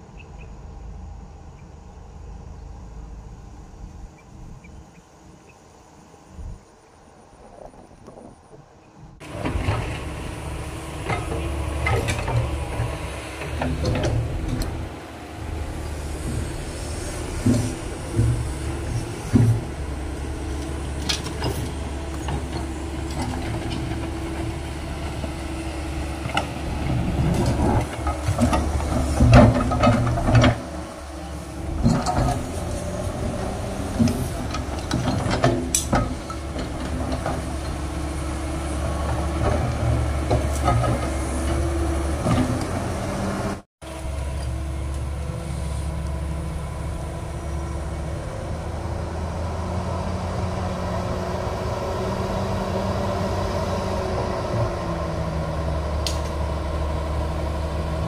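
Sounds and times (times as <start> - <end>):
excavator diesel engine under load: 9.2 - 58.0.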